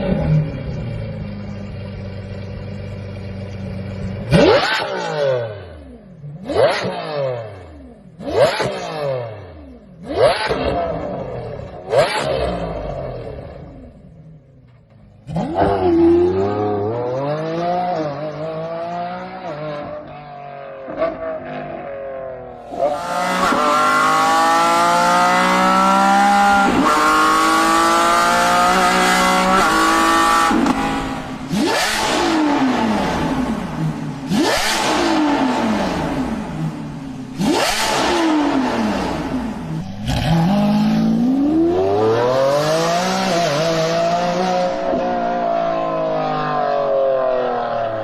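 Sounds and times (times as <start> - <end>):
sports car engine revving: 0.0 - 48.0.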